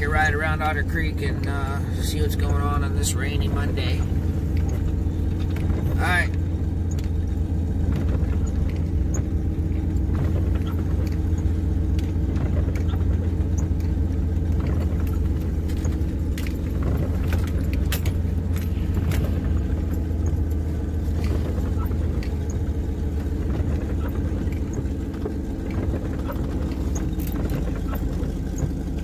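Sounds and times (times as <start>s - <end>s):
car engine and road noise: 0.0s - 29.0s
light clicks and ticks: 0.1s - 29.0s.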